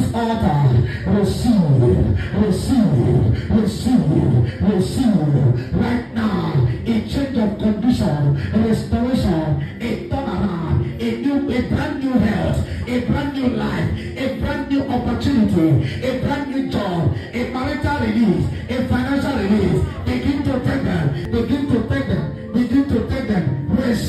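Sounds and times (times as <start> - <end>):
man chanting a prayer: 0.0 - 24.0.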